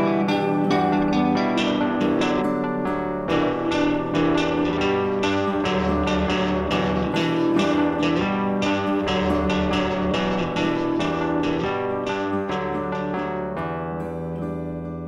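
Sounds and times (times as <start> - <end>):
instrumental music with plucked strings: 0.0 - 15.0.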